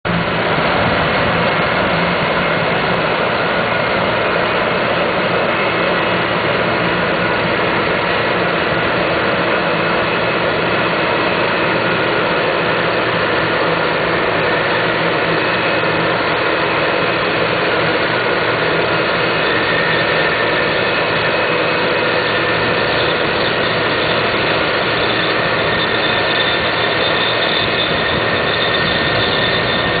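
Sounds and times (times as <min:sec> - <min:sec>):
combine harvester droning: 0:00.1 - 0:30.0
thin high whines: 0:00.1 - 0:30.0.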